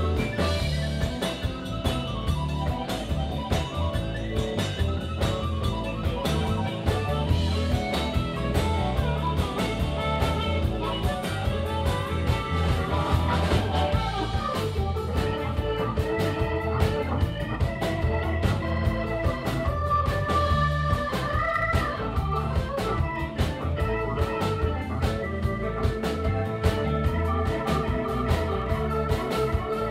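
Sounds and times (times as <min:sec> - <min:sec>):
amplified harmonica: 0:00.0 - 0:29.9
drum kit steady beat: 0:00.0 - 0:29.9
electric guitar: 0:00.0 - 0:29.9
electric keyboard: 0:00.0 - 0:29.9.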